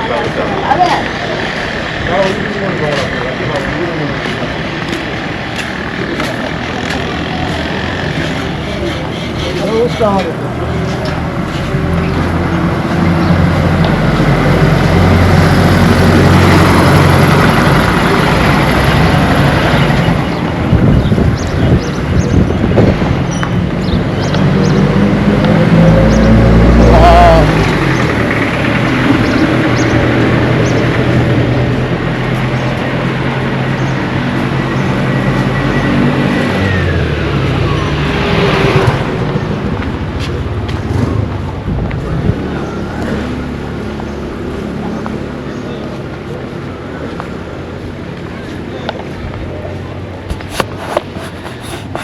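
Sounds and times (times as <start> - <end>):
heavy engine humming: 0.0 - 52.0.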